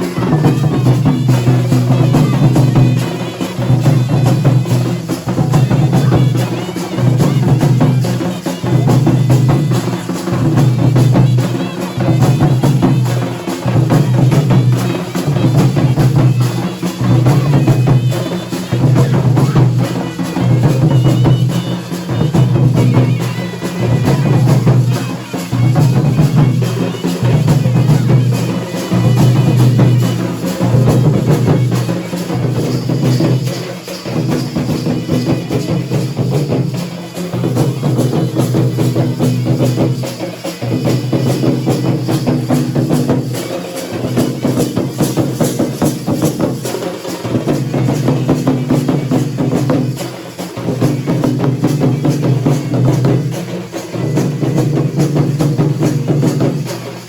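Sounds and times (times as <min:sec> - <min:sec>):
folk drums in fast rhythm: 0:00.0 - 0:57.0.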